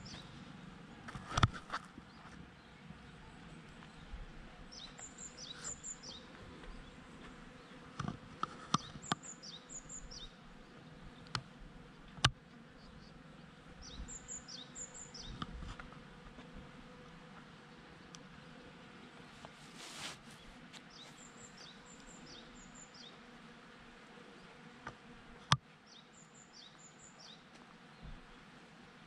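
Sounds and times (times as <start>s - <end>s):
bees buzzing: 3.0s - 29.0s.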